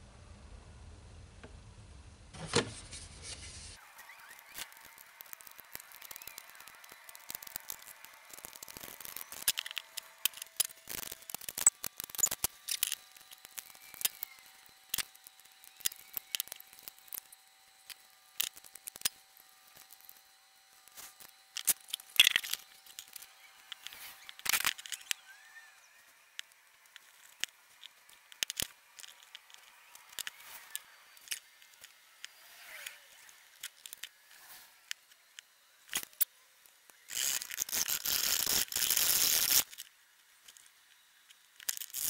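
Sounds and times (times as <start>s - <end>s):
faint high whine: 0.0s - 42.0s
crackling scrapes: 2.7s - 42.0s.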